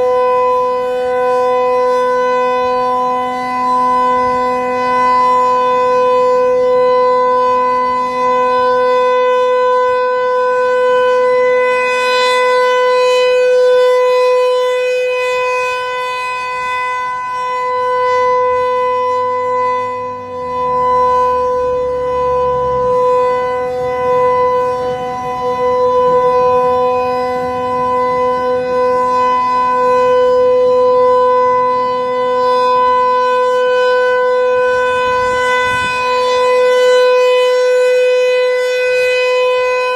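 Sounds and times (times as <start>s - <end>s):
single-tone warning siren: 0.0s - 39.9s.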